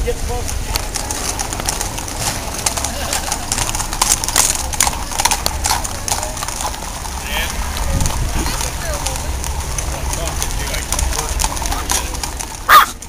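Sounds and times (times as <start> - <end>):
low rumble: 0.0 - 12.7
cattle hooves clattering on pavement: 0.0 - 13.0.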